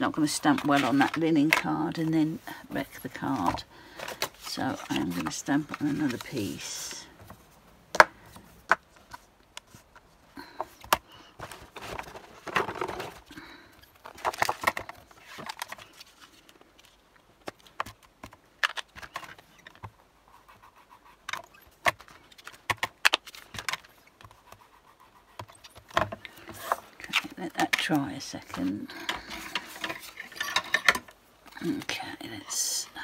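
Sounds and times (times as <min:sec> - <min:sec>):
rustling: 0:00.2 - 0:17.8, 0:21.1 - 0:33.0.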